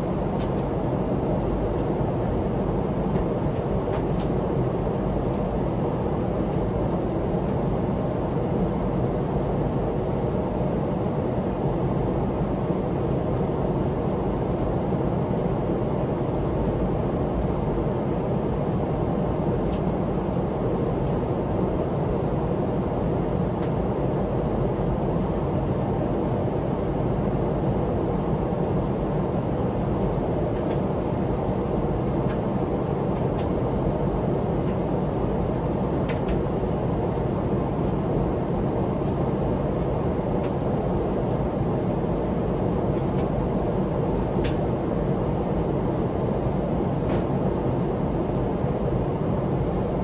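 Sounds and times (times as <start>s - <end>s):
airplane cabin rush: 0.1s - 49.9s.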